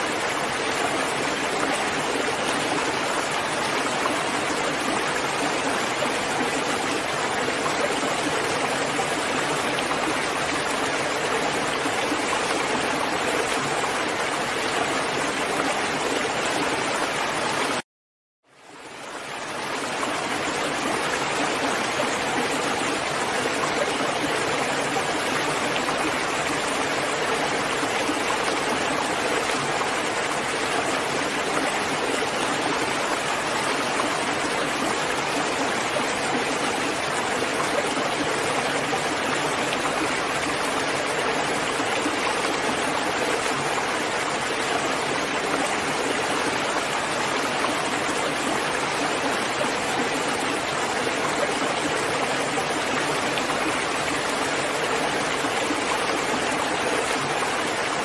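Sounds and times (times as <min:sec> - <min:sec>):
heavy rain: 0:00.0 - 0:17.8, 0:18.8 - 0:58.0.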